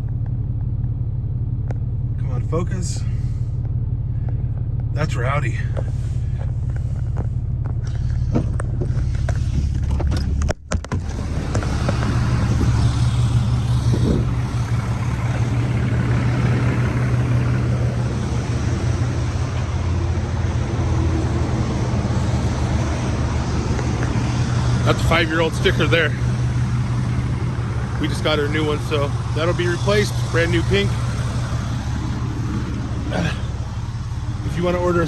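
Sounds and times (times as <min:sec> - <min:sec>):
road and tyre noise: 0:00.0 - 0:35.0
truck engine drone: 0:00.0 - 0:35.0.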